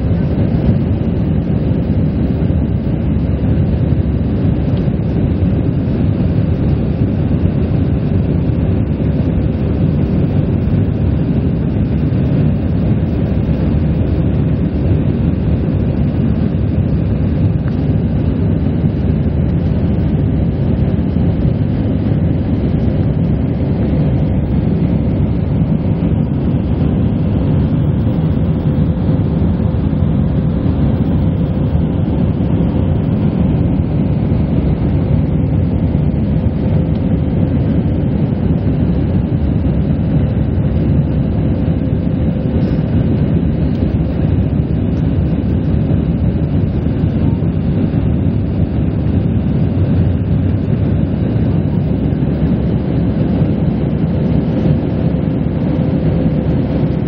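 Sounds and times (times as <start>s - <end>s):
faint steady hum: 0.0s - 57.0s
jet engines rumbling: 0.0s - 57.0s
rushing airflow: 9.1s - 57.0s.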